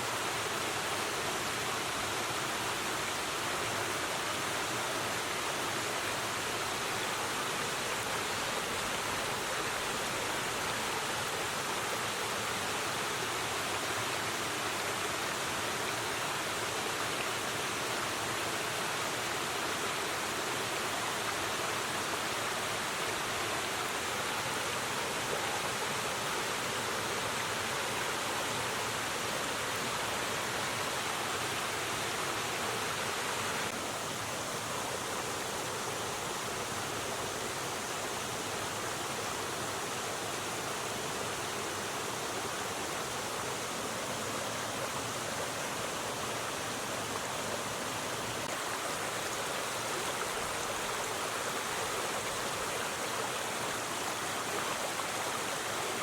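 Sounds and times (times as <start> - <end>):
river water rushing over stones: 0.0 - 56.0.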